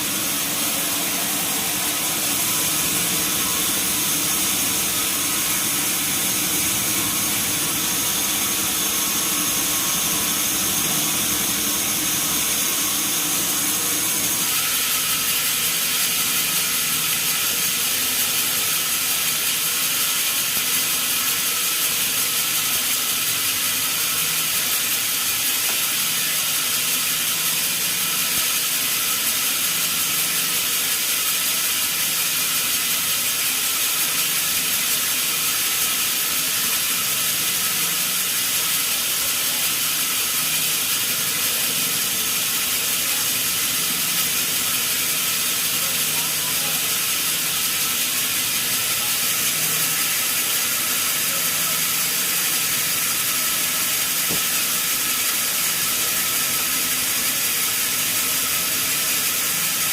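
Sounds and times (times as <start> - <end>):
sawmill saw machinery running: 0.0 - 59.9.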